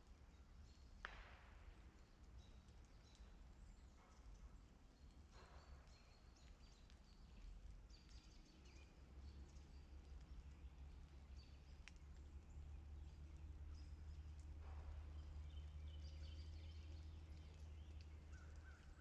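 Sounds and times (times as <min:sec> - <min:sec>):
small birds chirping: 0:02.3 - 0:19.0.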